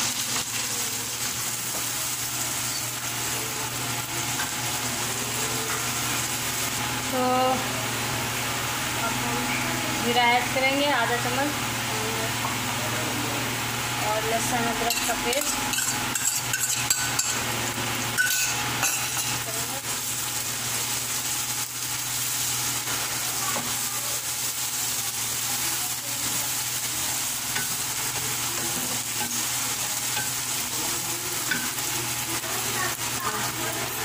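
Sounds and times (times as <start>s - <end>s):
onion sizzling in hot oil: 0.0s - 34.0s.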